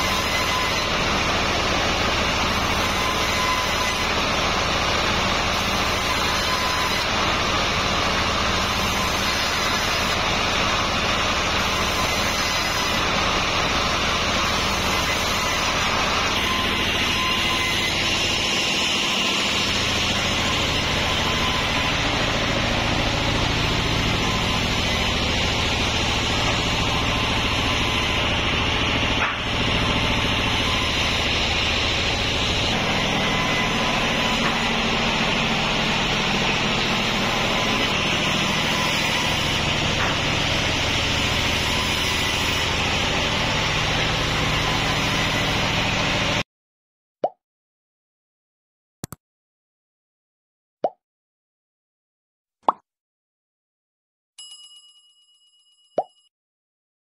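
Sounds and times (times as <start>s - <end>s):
sawmill machinery drone: 0.0s - 46.4s.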